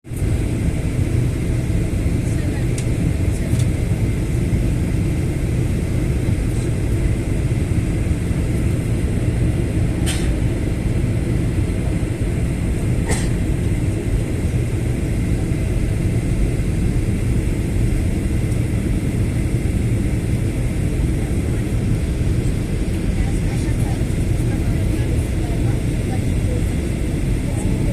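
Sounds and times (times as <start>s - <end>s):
airliner cabin engine drone: 0.1s - 27.9s.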